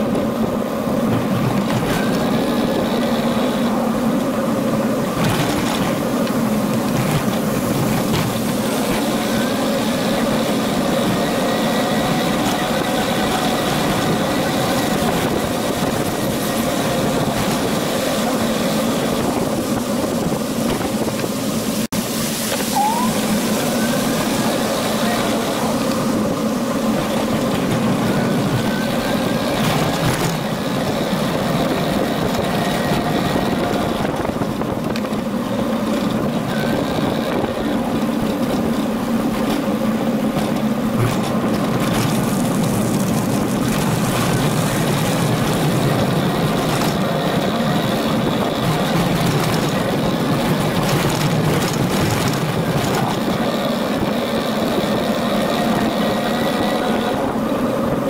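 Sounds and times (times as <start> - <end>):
bicycle rolling rumble: 0.0 - 58.0
wind noise on microphone: 0.0 - 58.0.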